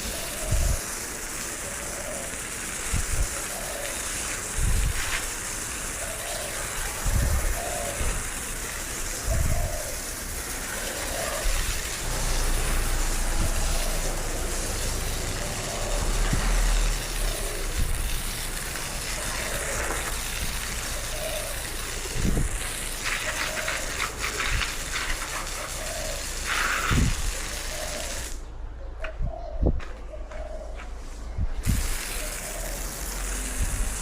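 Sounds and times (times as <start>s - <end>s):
water spraying and splashing: 0.0s - 28.4s, 31.6s - 34.0s.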